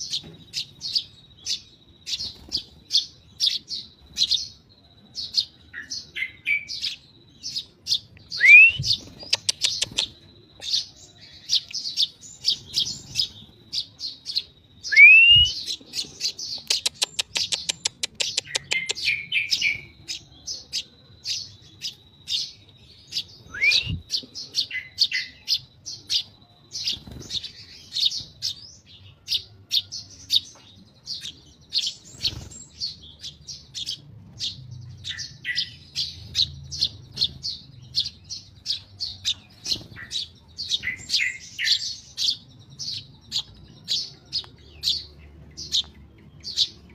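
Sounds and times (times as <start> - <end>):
sparrow chirping: 0.0 - 46.9.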